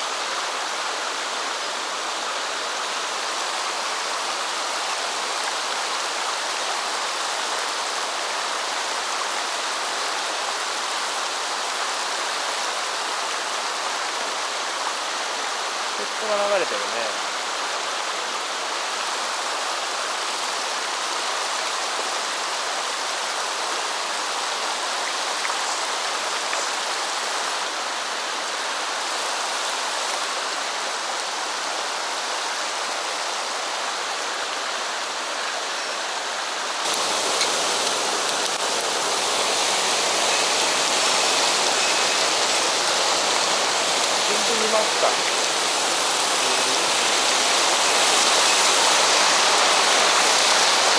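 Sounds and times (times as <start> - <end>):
stream running over rocks: 0.0 - 50.9.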